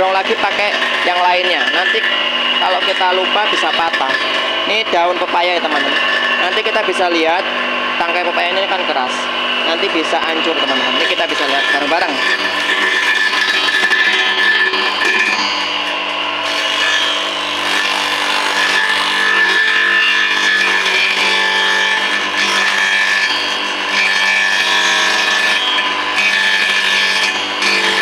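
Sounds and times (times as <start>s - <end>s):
electric grass chopper whining: 0.0s - 28.0s.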